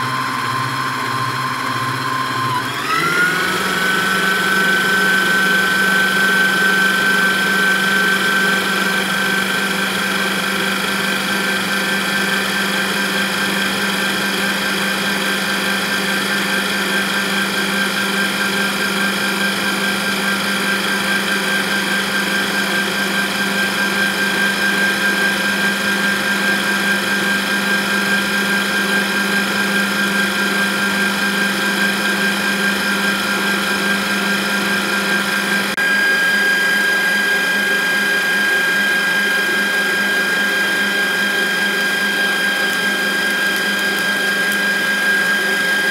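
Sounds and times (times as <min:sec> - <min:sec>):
stand mixer motor whining: 0:00.0 - 0:45.9.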